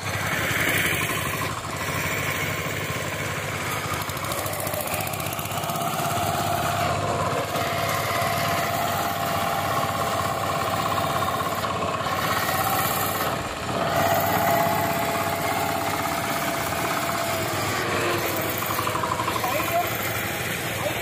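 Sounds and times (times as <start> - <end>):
diesel power tiller running: 0.0 - 21.0.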